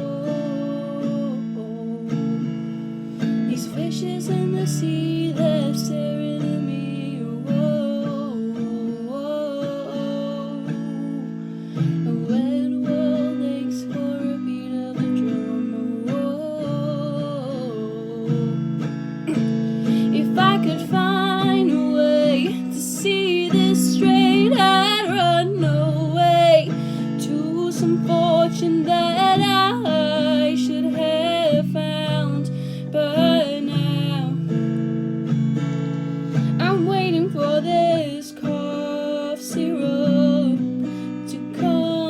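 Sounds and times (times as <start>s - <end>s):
acoustic guitar strumming chords: 0.0s - 42.0s.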